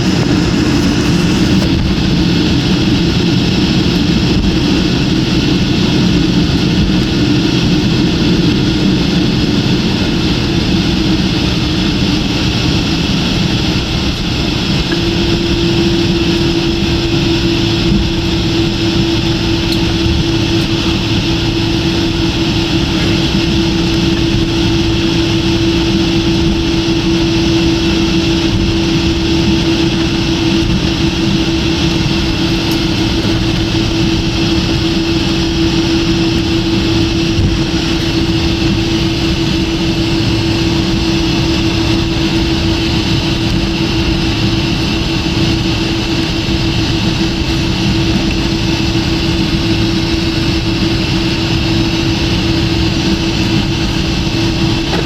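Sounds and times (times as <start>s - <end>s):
airliner cabin noise: 0.0s - 55.0s
constant low hum: 0.0s - 55.0s.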